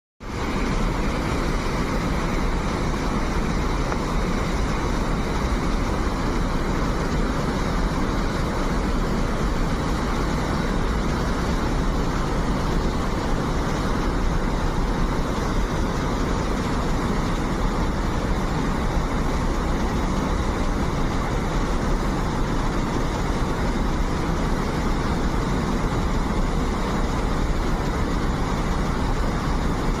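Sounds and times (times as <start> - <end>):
waterfall rushing: 0.2 - 30.0.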